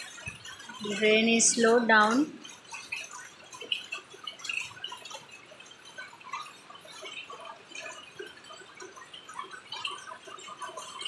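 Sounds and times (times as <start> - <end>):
light rain dripping: 0.0 - 11.0.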